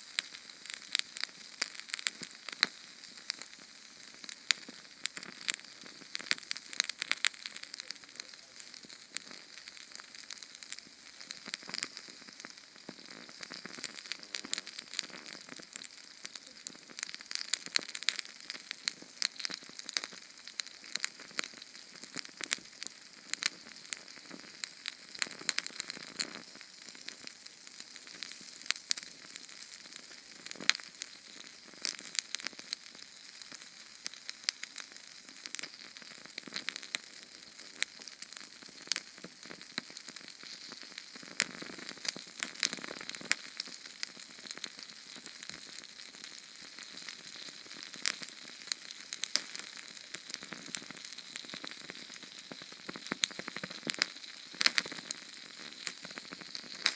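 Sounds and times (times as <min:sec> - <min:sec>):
flame popping and ticking: 0:00.0 - 0:56.9
canned fuel flame hissing: 0:00.1 - 0:56.9.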